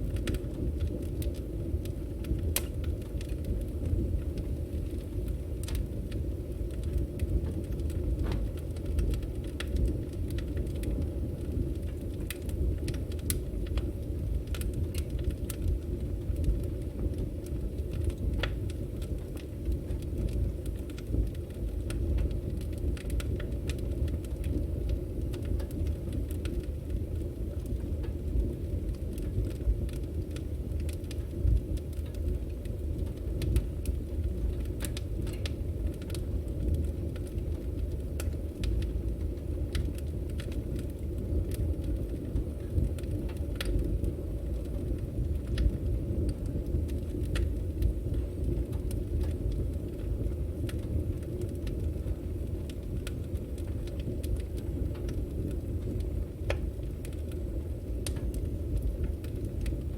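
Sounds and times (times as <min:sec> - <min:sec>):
low rumble of flames: 0:00.0 - 0:59.9
wood crackling and popping: 0:00.0 - 0:59.9.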